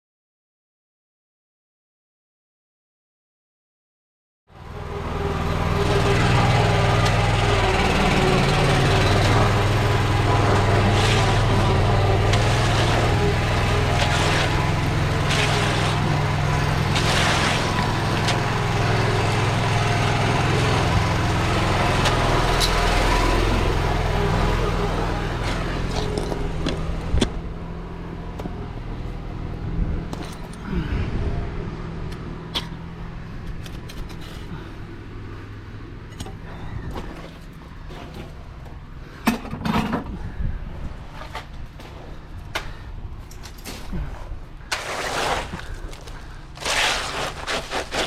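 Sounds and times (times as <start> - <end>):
heavy engine running: 4.5 - 44.7.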